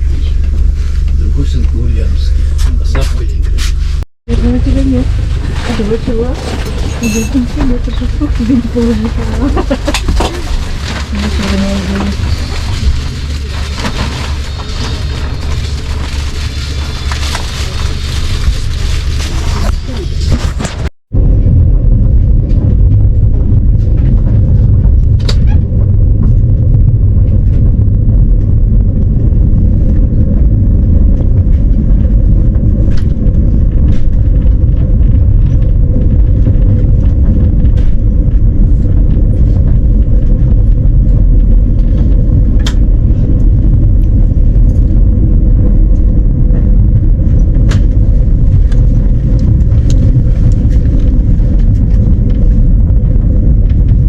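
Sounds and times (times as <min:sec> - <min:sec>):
constant hum: 0:00.0 - 0:54.0
train low rumble: 0:00.0 - 0:54.0.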